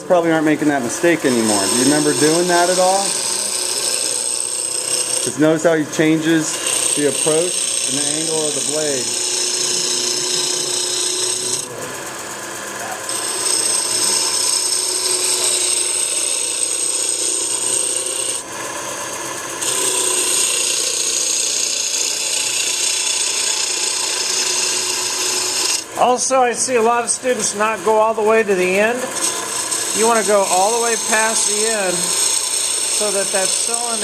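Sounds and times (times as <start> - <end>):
wood lathe hum: 0.0 - 34.0
gouge cutting wood hiss: 0.4 - 11.6, 13.0 - 18.4, 19.6 - 26.3, 28.6 - 34.0.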